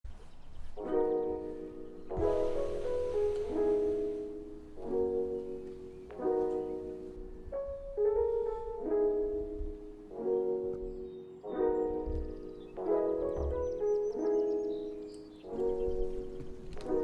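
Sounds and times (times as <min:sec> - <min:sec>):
soft piano chords: 0:00.1 - 0:17.0.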